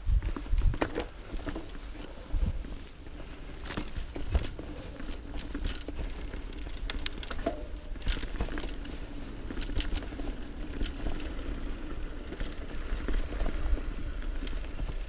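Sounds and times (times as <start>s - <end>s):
bike rattling and clicking: 0.0s - 15.0s
tyres on dirt and leaves: 0.0s - 15.0s.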